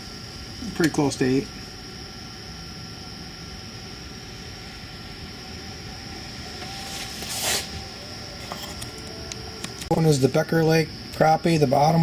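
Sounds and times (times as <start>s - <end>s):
faint high whine: 0.0s - 12.0s
steady background hiss: 0.0s - 12.0s.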